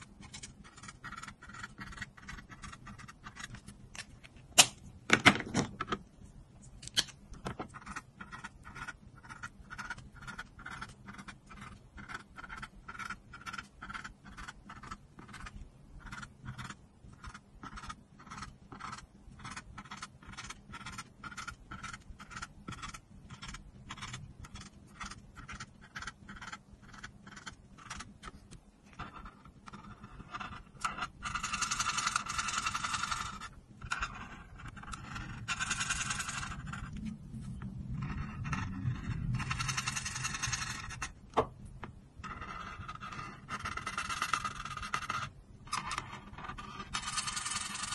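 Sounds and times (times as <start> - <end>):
marker scratching on paper: 0.0 - 3.7, 7.7 - 37.0, 38.0 - 41.1, 42.2 - 47.9.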